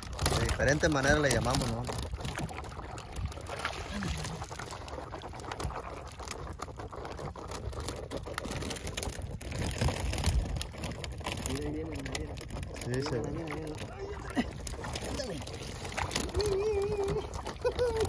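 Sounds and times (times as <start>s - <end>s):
net splashing through water: 0.0s - 18.0s
water pouring and dripping: 0.0s - 18.0s.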